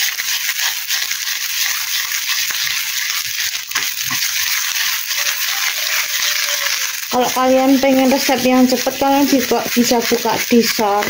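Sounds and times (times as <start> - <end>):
sausage sizzling in oil: 0.0 - 11.0.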